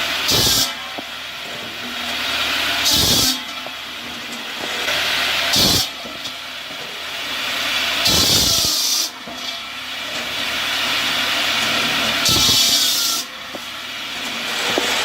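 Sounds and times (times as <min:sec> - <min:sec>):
firewood processor mechanical noise: 0:00.0 - 0:15.0.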